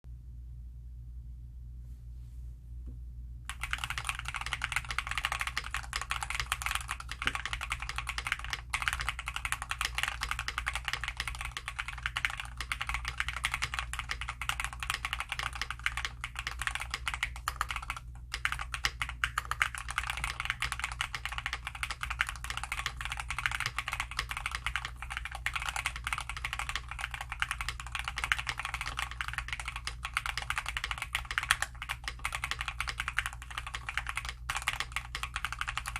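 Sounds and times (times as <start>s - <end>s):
fast typing on mechanical keyboard: 3.5s - 35.9s.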